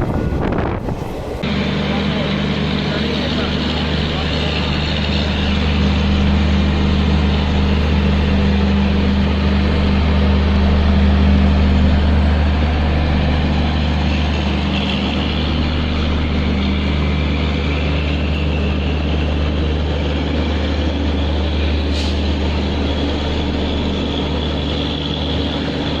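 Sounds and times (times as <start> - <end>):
electric locomotive deep hum: 0.0 - 26.0
running train noise: 0.0 - 26.0.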